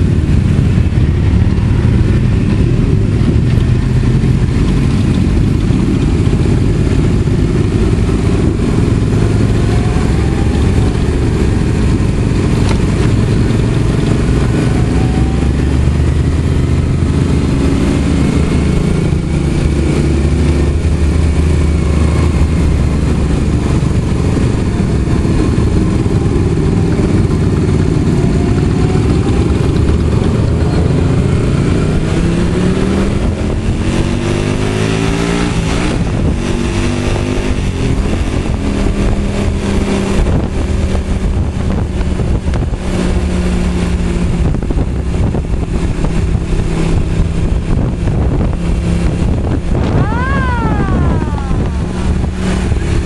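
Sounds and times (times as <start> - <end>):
motorcycle accelerating: 0.0 - 53.0
motorcycle engines droning: 0.0 - 53.0.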